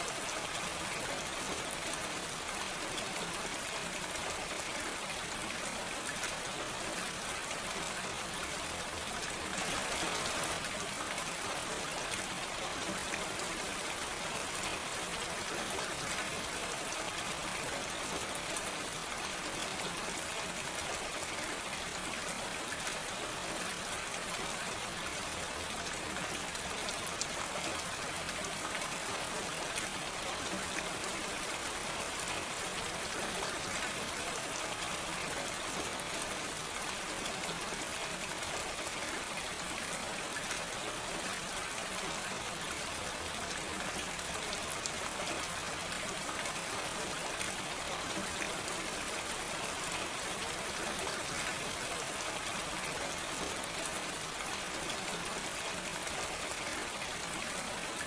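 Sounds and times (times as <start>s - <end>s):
gentle rain hiss: 0.0s - 58.0s.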